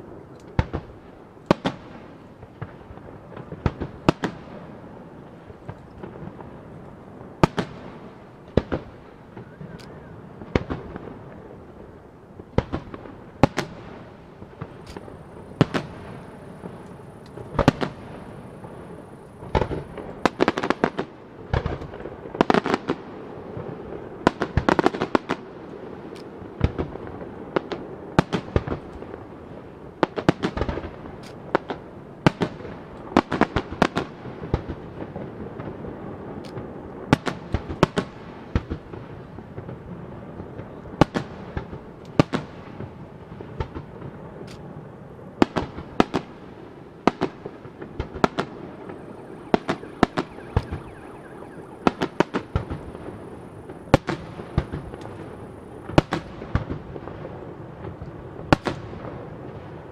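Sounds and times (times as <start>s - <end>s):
fireworks bursting with echo: 0.0s - 59.9s.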